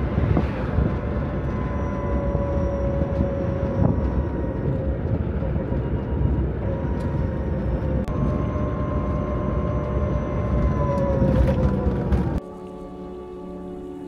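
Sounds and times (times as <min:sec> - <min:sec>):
electric motor whine: 0:00.0 - 0:14.0
road and tyre noise: 0:00.0 - 0:14.0.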